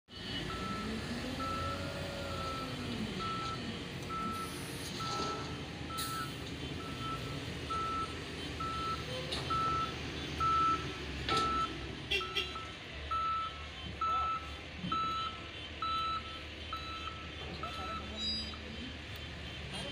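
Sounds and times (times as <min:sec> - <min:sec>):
diesel truck engine running: 0:00.1 - 0:19.9
reversing alarm beeping: 0:00.3 - 0:19.2.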